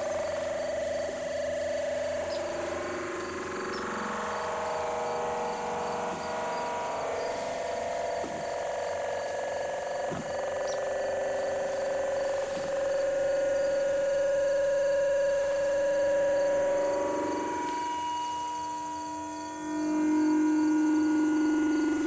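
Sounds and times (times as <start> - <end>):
synthesizer drone: 0.0 - 22.0.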